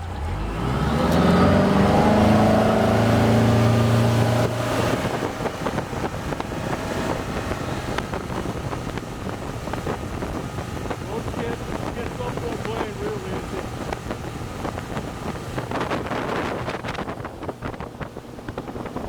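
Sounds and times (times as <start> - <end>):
outboard motor revving: 0.0 - 19.0
rush of wind and water: 0.0 - 19.0.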